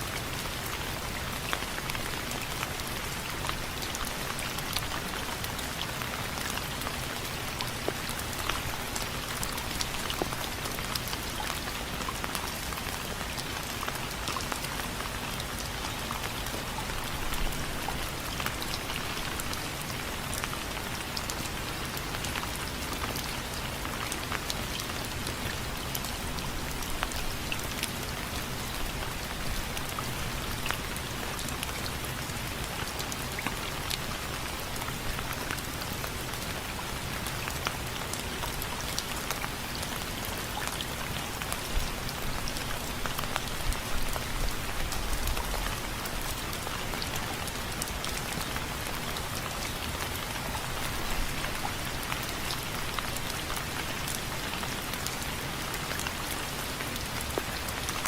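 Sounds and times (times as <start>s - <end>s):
rain on window frames: 0.0s - 58.0s.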